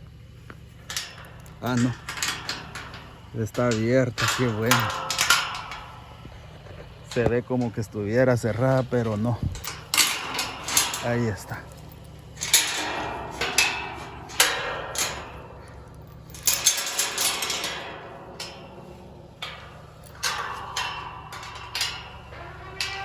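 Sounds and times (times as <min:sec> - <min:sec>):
metal gate clanking: 0:00.4 - 0:23.0.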